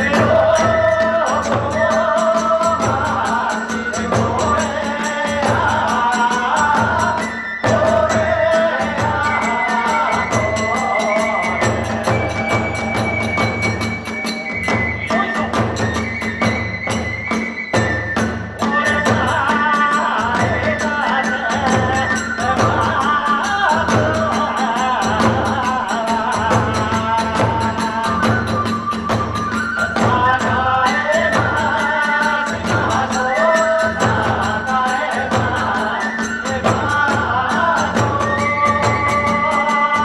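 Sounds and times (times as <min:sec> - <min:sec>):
bamboo flute wavering melody: 0:00.0 - 0:25.6, 0:26.4 - 0:40.0
big drum beats: 0:00.0 - 0:40.0.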